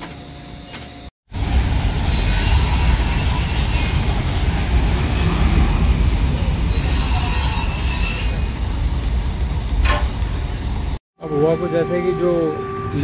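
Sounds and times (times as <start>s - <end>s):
freight train wheels rumbling: 1.3s - 13.0s.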